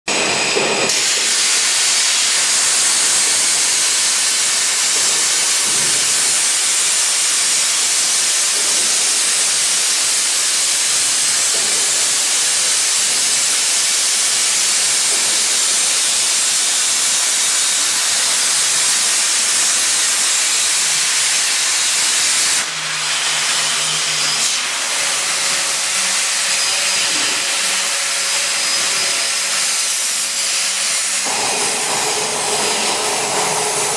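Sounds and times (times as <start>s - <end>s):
plasma torch hissing: 0.7s - 22.8s, 24.4s - 33.9s.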